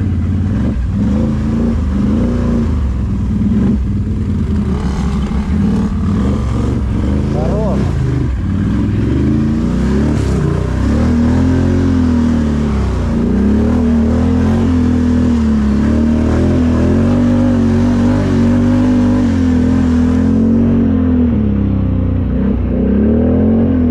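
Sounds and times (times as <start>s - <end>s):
atv engine revving: 0.0s - 23.9s.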